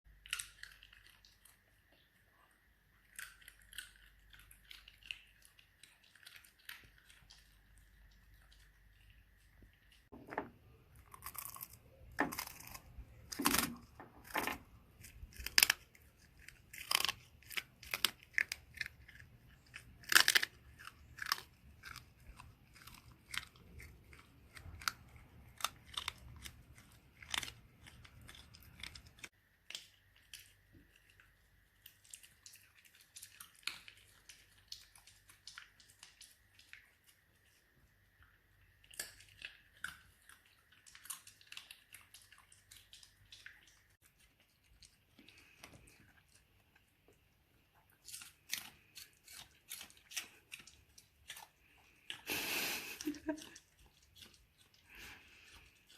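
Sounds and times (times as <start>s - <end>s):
dog crunching food: 0.1s - 1.9s, 3.0s - 37.7s, 38.6s - 55.9s.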